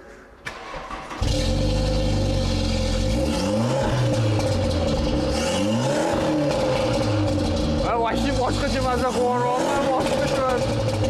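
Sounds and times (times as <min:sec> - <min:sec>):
car engine revving: 0:00.6 - 0:11.0.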